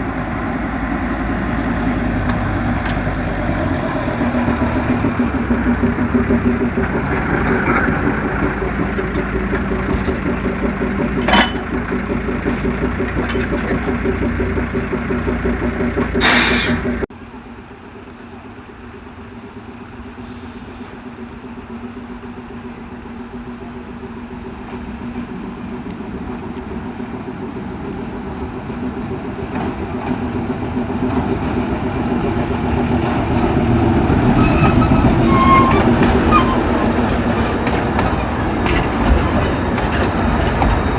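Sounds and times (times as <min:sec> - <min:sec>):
approaching train: 0:00.0 - 0:40.9
diesel locomotive running: 0:00.0 - 0:40.9.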